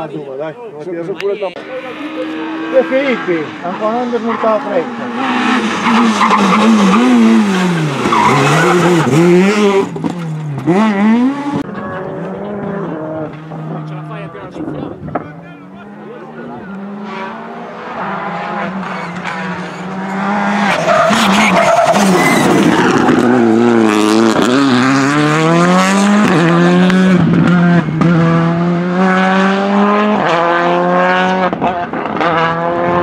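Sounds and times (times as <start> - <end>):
rally car engine accelerating: 1.6 - 33.0.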